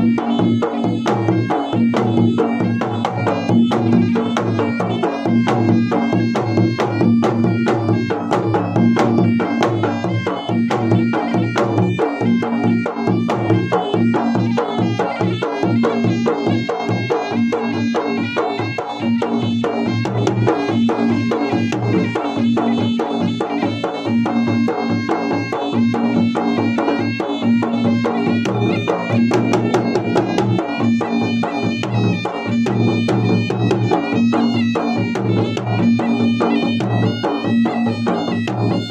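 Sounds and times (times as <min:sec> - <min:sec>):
drums beating fast rhythm: 0:00.0 - 0:38.9
steady held melody line: 0:00.0 - 0:38.9.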